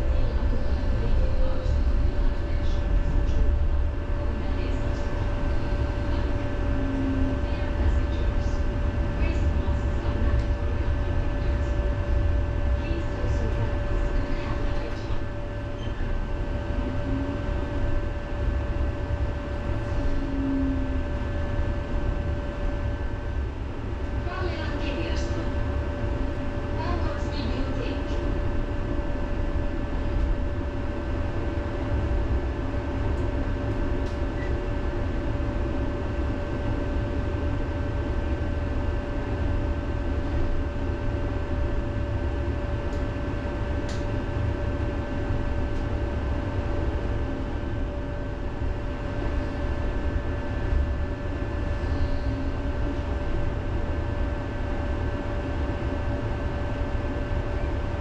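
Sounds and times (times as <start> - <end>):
constant electric hum: 0.0 - 58.0.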